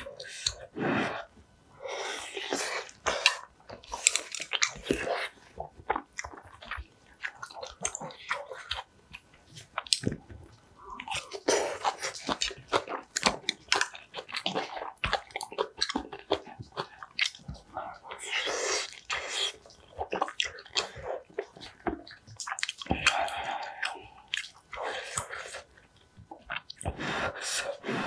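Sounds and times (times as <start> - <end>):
person chewing and crunching food: 0.0 - 28.0
wet mouth sounds: 2.0 - 28.0.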